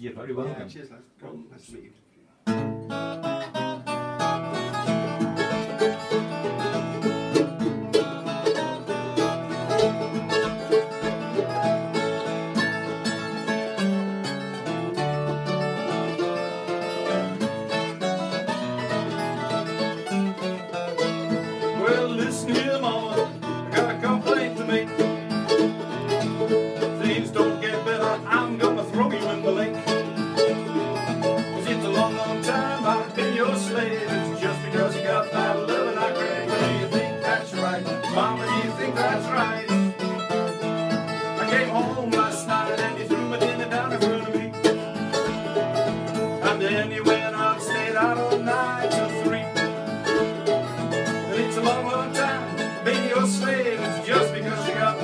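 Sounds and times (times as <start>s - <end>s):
acoustic guitar playing blues: 2.4s - 55.0s
mandolin playing: 2.5s - 55.0s.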